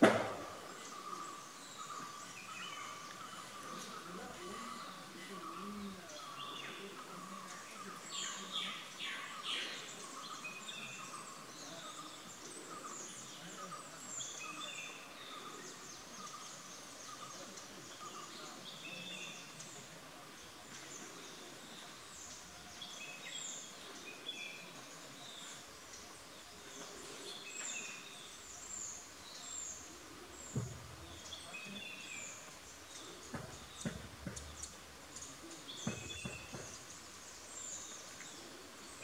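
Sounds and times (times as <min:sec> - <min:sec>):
birds chirping: 0:00.0 - 0:39.0
faint background hiss: 0:00.0 - 0:39.0.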